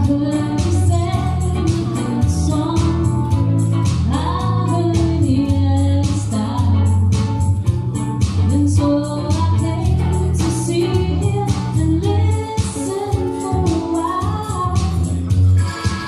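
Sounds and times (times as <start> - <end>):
person singing into a microphone: 0.0 - 7.2, 8.4 - 16.0
amplified backing music with bass: 0.0 - 16.0.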